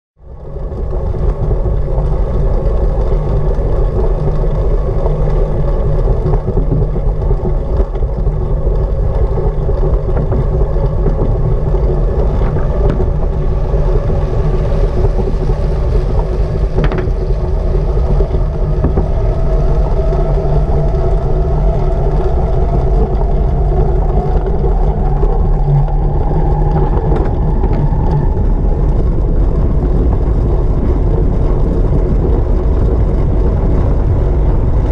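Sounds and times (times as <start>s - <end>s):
bike tyres and drivetrain humming: 0.2s - 34.9s
wind rushing over microphone: 0.2s - 34.9s.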